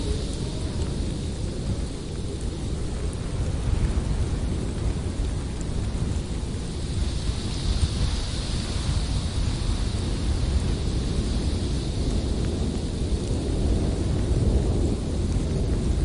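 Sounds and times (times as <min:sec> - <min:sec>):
blizzard wind blowing hard: 0:00.0 - 0:16.0.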